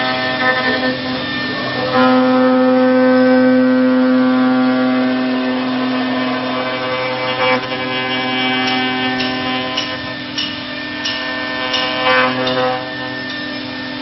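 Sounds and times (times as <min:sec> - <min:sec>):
router spindle high-pitched whine: 0:00.0 - 0:14.0.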